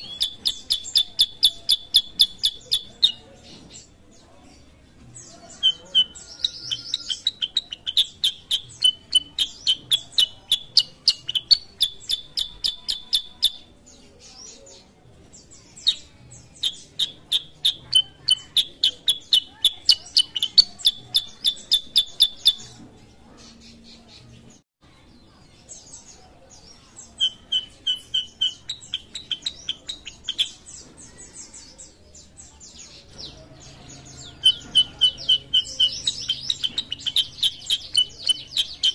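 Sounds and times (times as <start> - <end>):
bird singing rapid chirps: 0.0 - 24.6, 25.7 - 38.9.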